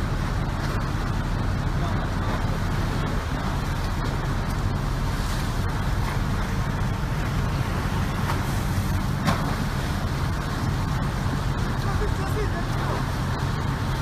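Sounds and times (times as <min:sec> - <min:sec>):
noise haze: 0:00.0 - 0:14.0
steady low rumble: 0:00.0 - 0:14.0.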